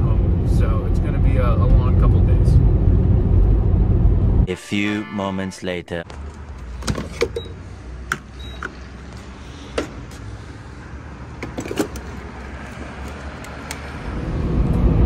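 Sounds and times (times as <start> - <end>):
van engine rumbling: 0.0 - 4.5, 6.1 - 15.0.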